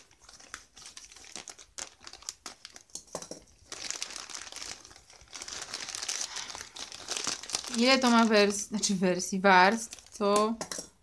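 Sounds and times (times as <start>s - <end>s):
packaging crinkling: 0.0s - 8.9s, 9.6s - 10.4s.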